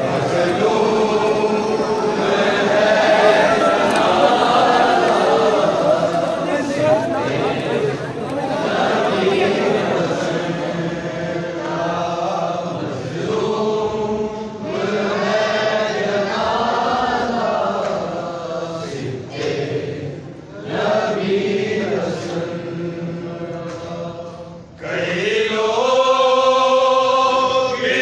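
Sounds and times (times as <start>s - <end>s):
crowd chanting: 0.0s - 28.0s.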